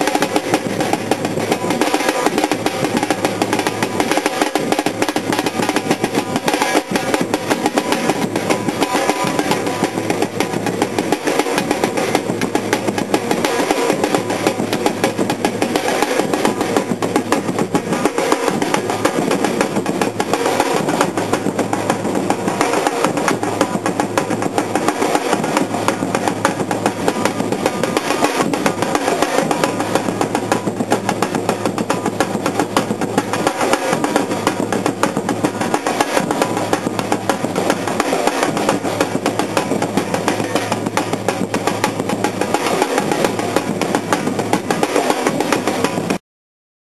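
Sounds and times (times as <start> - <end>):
drum corps playing: 0.0 - 46.2.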